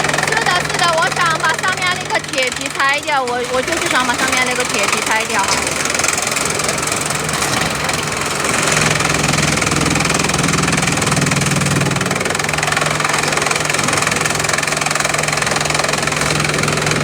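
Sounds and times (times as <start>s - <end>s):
crushing machine clatter: 0.0s - 17.0s
low machine hum: 0.0s - 17.0s.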